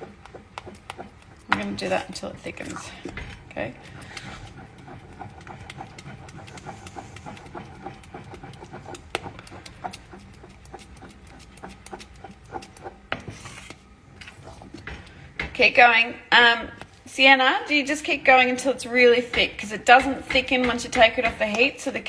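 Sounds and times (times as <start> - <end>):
utensil scraping a saucepan: 0.0 - 22.0.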